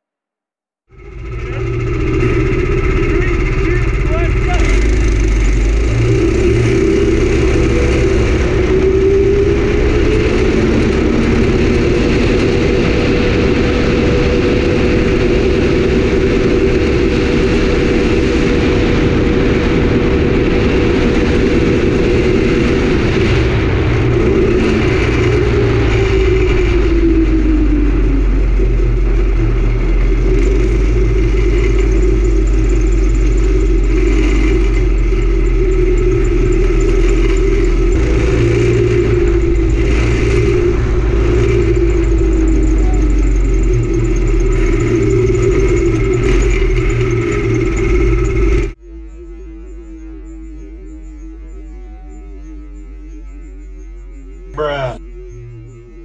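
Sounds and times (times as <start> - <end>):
go-kart engine running: 0.9 - 48.8.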